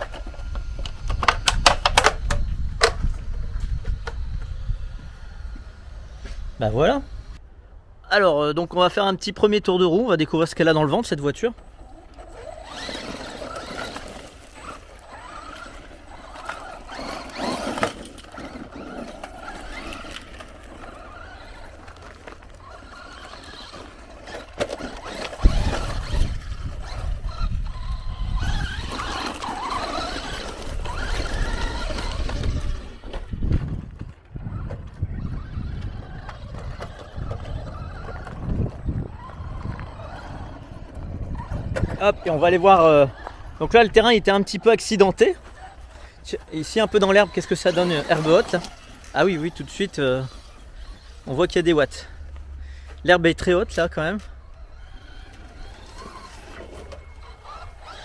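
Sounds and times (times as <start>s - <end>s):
electric motor whining: 0.0s - 7.4s, 11.5s - 58.0s.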